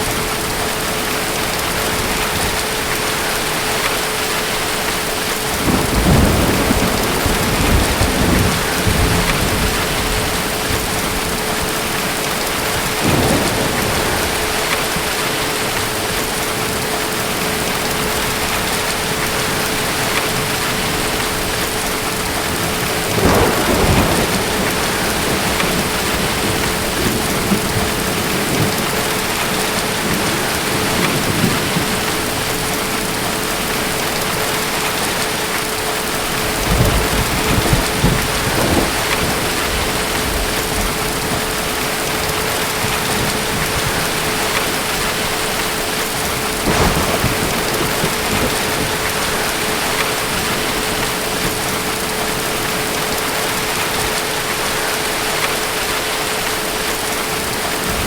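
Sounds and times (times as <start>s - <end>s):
steady rain: 0.0s - 58.0s
distant thunder rumbling: 5.0s - 54.8s.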